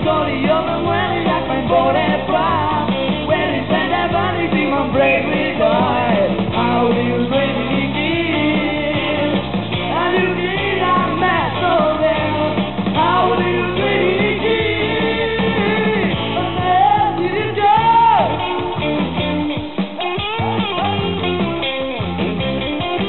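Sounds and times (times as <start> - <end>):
man singing: 0.0 - 18.5
bass guitar: 0.0 - 23.0
drums: 0.0 - 23.0
guitar: 0.0 - 23.0.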